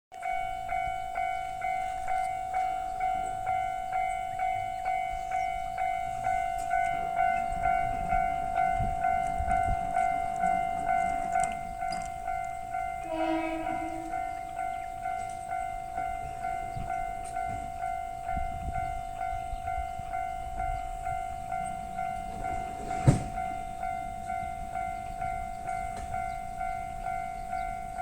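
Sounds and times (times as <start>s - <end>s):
level crossing warning bell: 0.1s - 28.0s.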